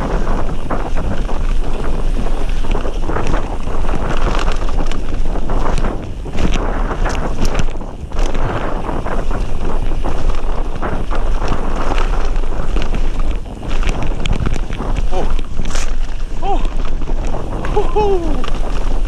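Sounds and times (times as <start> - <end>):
bike rattling over stones: 0.0 - 19.0
bike tyres rolling on gravel: 0.0 - 19.0
wind buffeting microphone: 0.0 - 19.0.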